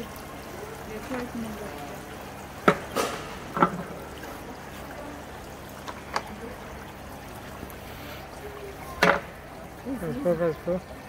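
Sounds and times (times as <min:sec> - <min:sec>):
water trickling onto stones: 0:00.0 - 0:11.0.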